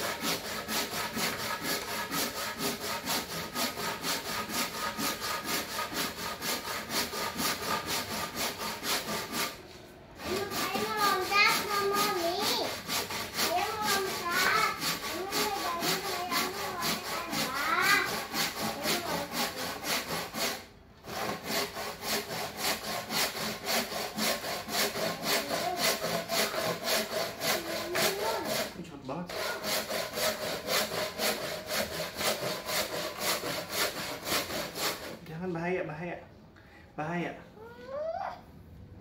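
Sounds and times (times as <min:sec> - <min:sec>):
hand saw cutting wood: 0:00.0 - 0:35.3.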